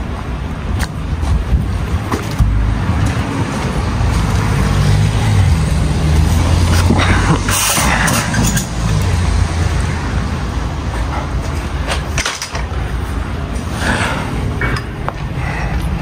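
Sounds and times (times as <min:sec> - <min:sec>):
diesel truck engine drone: 0:00.0 - 0:16.0.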